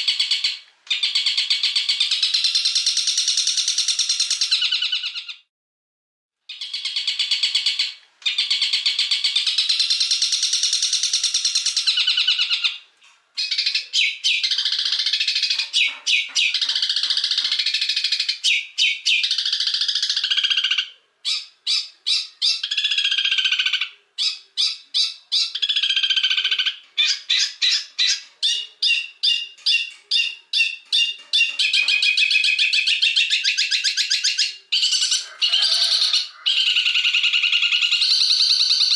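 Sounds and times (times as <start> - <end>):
songbird harsh calls and trills: 0.0 - 5.5, 6.5 - 38.9.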